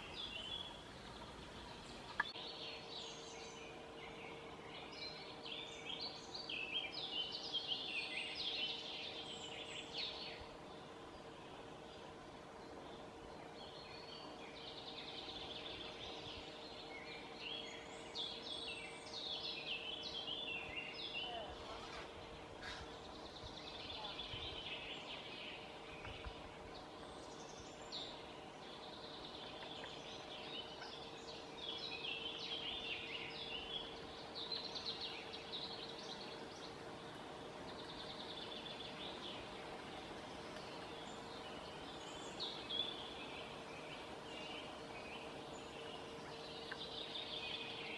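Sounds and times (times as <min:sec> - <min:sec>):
birds chattering: 0:00.0 - 0:47.9
faint steady hum: 0:00.0 - 0:47.9.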